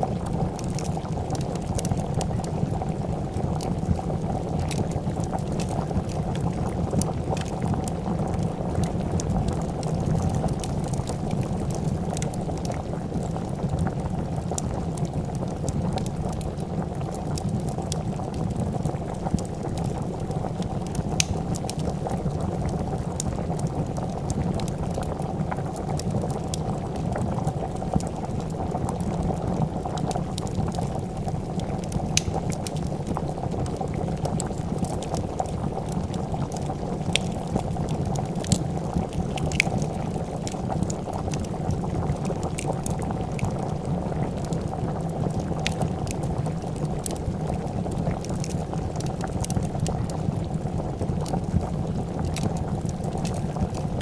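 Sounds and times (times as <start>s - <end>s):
soup bubbling in a pot: 0.0s - 54.0s
wood fire crackling: 0.0s - 54.0s.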